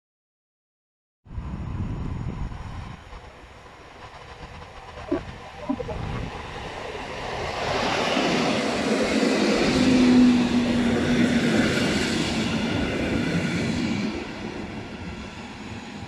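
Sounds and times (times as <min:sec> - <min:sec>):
trains passing rumbling on rails: 0:01.3 - 0:16.0.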